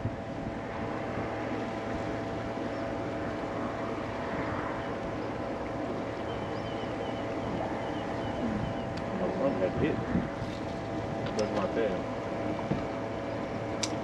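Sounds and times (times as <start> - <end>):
boat motor humming and whining: 0.0 - 14.0
wind: 0.0 - 14.0.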